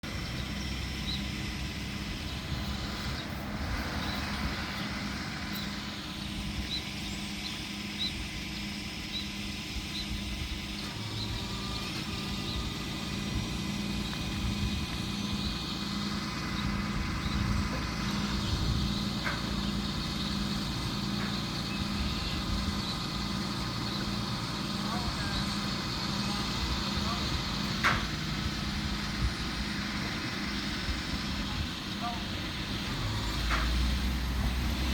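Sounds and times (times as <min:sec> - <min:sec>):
truck engine running: 0:00.0 - 0:34.9.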